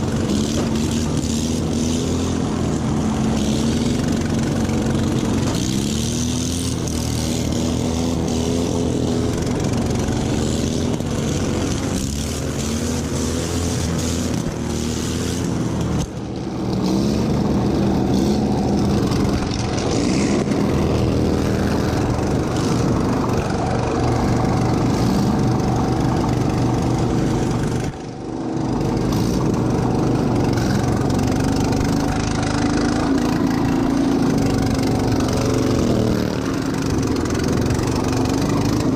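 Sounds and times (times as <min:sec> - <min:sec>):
lawn tractor engine running hard: 0:00.0 - 0:38.9.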